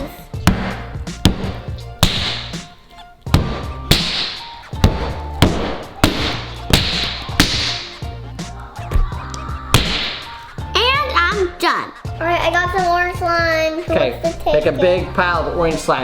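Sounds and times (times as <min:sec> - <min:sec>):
background music with steady beat: 0:00.0 - 0:16.0.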